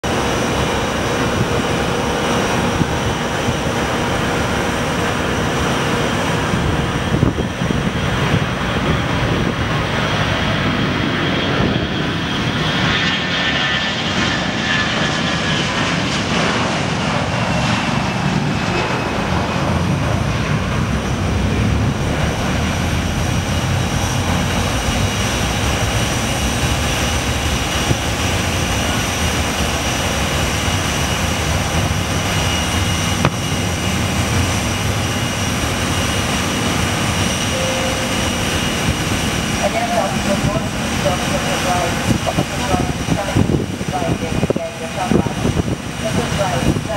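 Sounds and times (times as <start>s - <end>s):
jet engines at takeoff: 0.0s - 46.9s.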